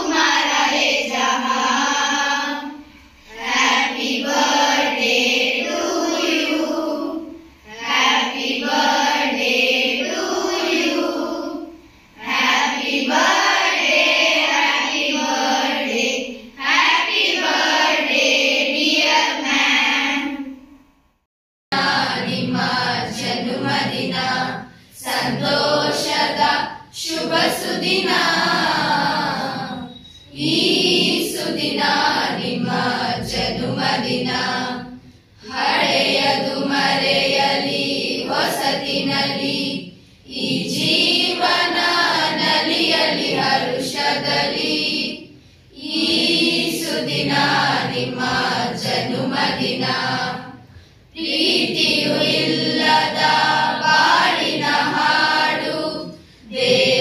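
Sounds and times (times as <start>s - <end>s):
children singing in chorus: 0.0s - 20.6s, 21.8s - 57.0s.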